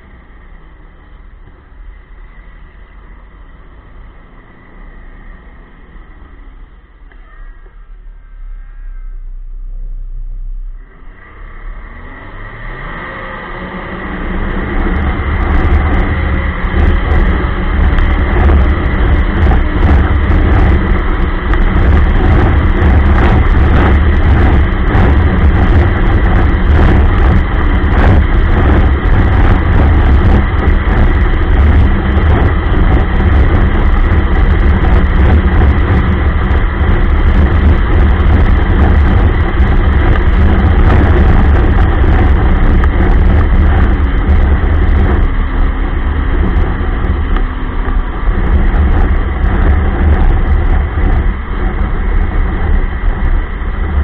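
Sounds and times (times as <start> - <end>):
snowmobile engine and track: 0.0 - 54.0.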